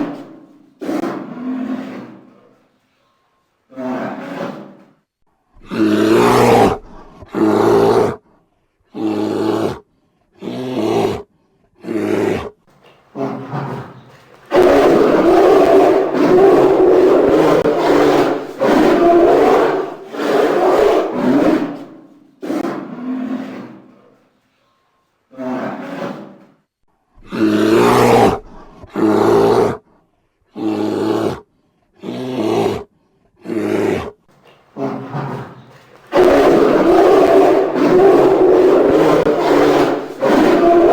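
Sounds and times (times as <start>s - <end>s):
bear roaring: 0.0s - 2.6s, 3.7s - 5.0s, 5.6s - 8.2s, 8.9s - 9.8s, 10.4s - 24.2s, 25.3s - 26.5s, 27.2s - 29.8s, 30.5s - 40.9s.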